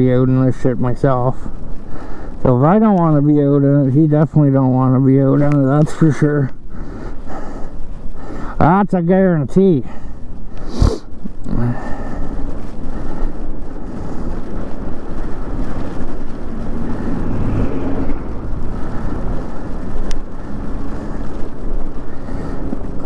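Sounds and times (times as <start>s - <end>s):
rushing wind: 0.0s - 23.0s.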